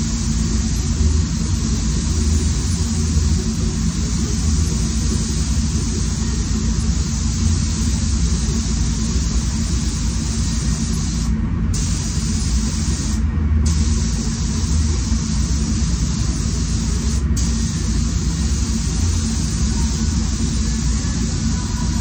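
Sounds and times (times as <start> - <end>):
spray gun air hiss: 0.0 - 22.0
ventilation fans rushing: 0.0 - 22.0.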